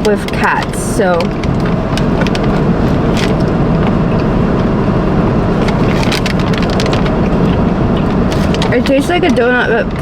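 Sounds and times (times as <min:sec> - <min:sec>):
car interior road and engine rumble: 0:00.0 - 0:10.0.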